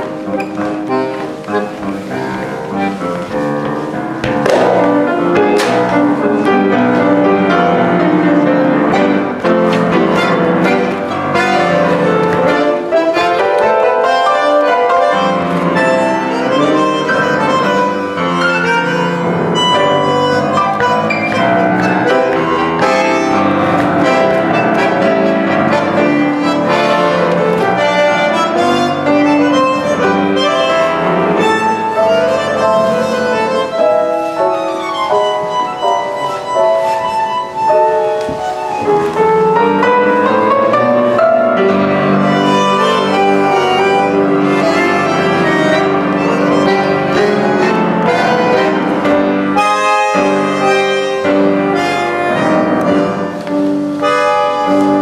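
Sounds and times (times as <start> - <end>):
bandoneon playing tango: 0.0 - 55.0
piano playing tango: 0.0 - 55.0.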